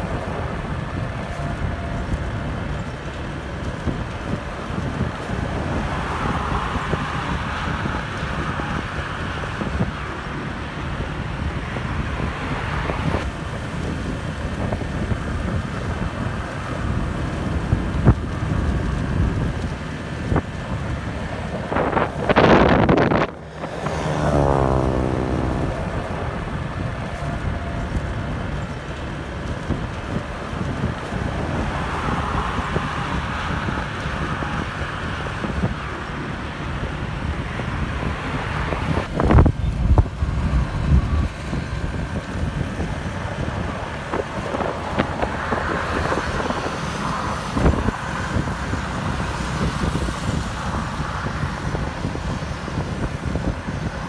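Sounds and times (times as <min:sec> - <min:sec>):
loud rush of passing vehicle: 0:00.0 - 0:54.0
road and engine rumble: 0:00.0 - 0:54.0
wind buffeting microphone: 0:00.0 - 0:54.0.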